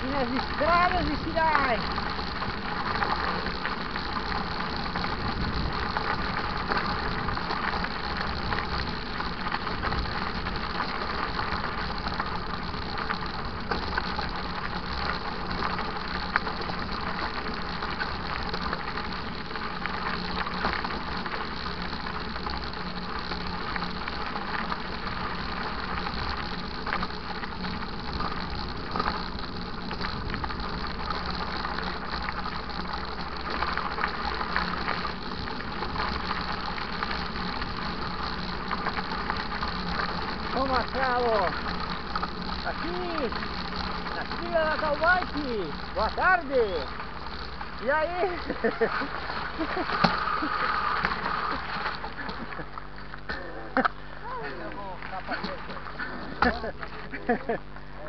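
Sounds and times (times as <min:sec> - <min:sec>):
bike rattling: 0:00.0 - 0:58.0
bike tyres on dirt: 0:00.0 - 0:58.0.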